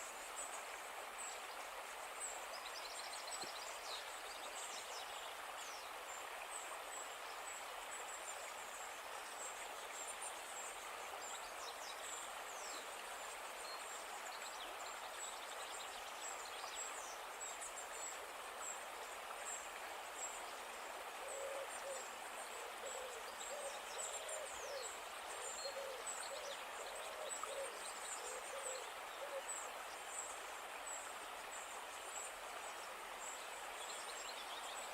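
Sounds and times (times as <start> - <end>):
river flowing: 0.0 - 34.9.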